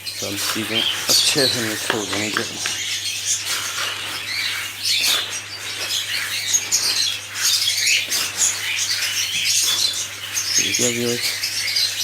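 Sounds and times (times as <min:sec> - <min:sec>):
budgerigars chirping: 0:00.0 - 0:12.0
seed rustling by hand: 0:00.0 - 0:12.0.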